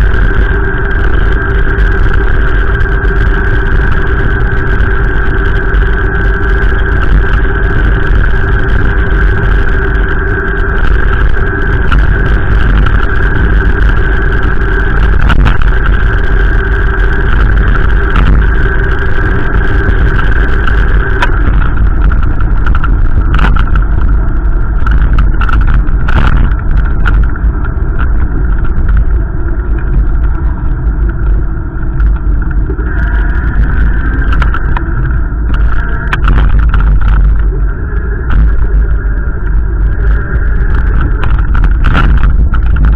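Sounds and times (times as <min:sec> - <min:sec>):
steady hum: 0:00.0 - 0:42.9
wind buffeting microphone: 0:00.0 - 0:42.9.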